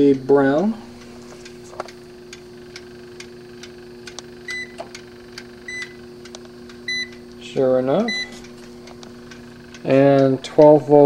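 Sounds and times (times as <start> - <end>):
charger timer ticking: 0.0 - 11.0
steady electrical hum: 0.0 - 11.0.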